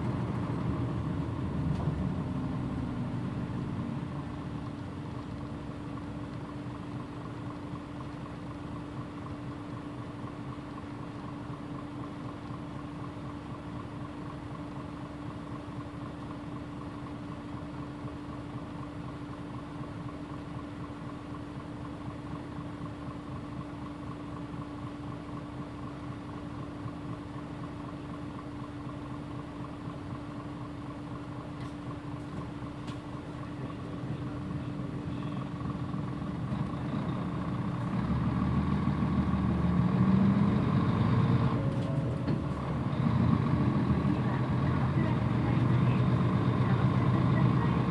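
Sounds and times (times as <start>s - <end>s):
bus diesel engine idling: 0.0s - 47.9s.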